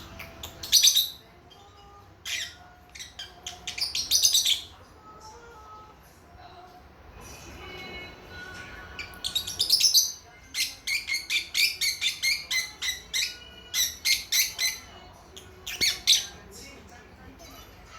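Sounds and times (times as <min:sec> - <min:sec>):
lovebirds chirping: 0:00.0 - 0:05.5, 0:07.3 - 0:16.8.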